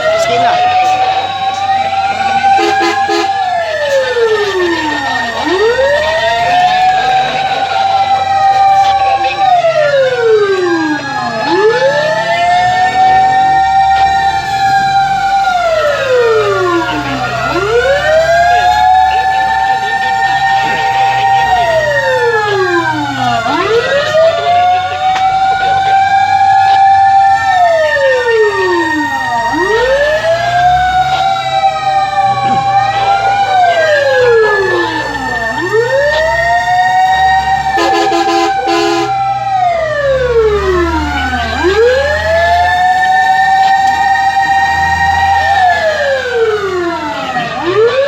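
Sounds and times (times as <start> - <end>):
fire truck sirens wailing: 0.0 - 48.0
low steady siren tone: 0.0 - 48.0.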